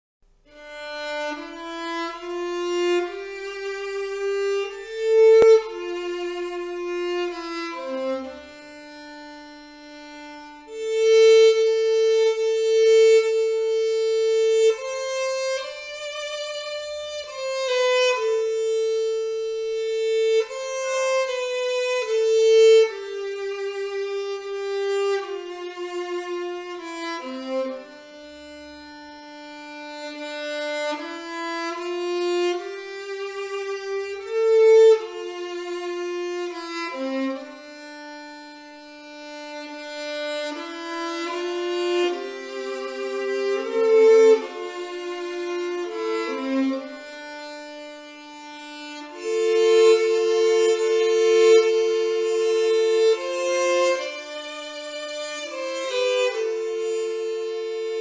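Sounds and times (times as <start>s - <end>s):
solo violin folk melody: 0.3s - 58.0s.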